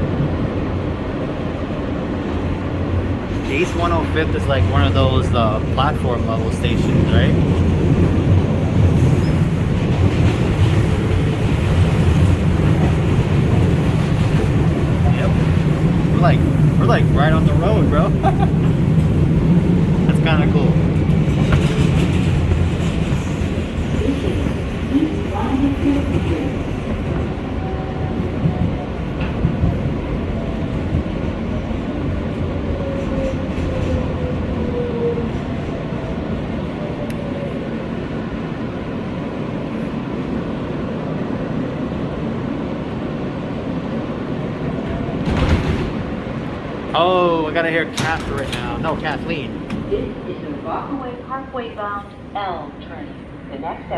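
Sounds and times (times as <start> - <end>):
subway train rumbling on track: 0.0 - 53.9.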